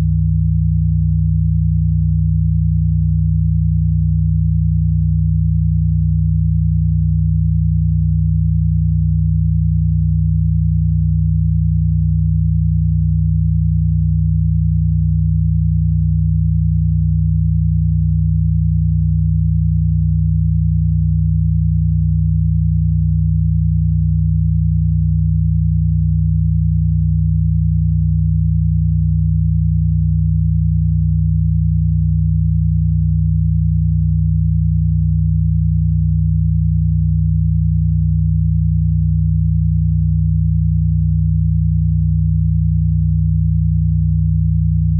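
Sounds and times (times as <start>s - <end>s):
low electronic sine tone: 0.0s - 44.9s.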